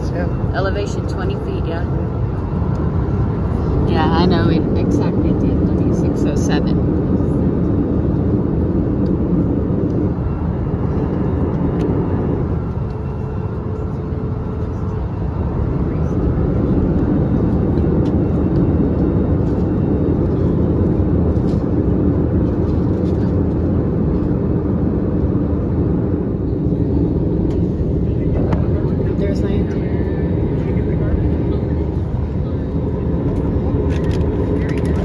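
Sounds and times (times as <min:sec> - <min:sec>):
airliner cabin engine and airflow rush: 0:00.0 - 0:35.0.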